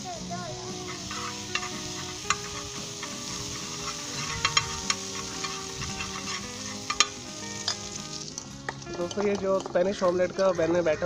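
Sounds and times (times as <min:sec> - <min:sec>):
butter sizzling on a griddle: 0:00.0 - 0:10.9
spoon scraping on griddle: 0:00.6 - 0:10.6.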